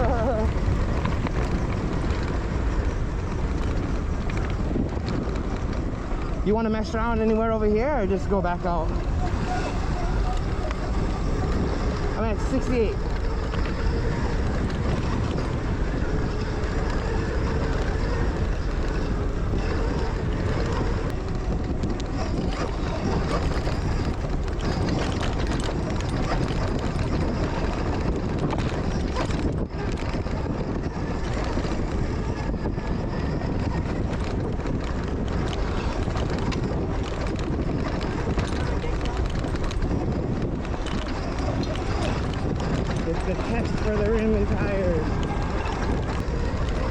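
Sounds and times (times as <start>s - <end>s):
electric dirt bike rumble: 0.0s - 46.9s
wind buffeting microphone: 0.0s - 46.9s.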